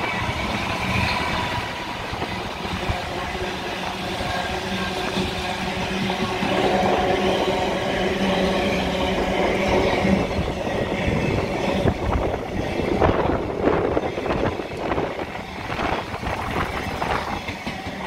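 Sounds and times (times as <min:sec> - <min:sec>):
freight train wheels rumbling: 0:00.0 - 0:18.0
wheels clicking over rail joints: 0:00.0 - 0:18.0.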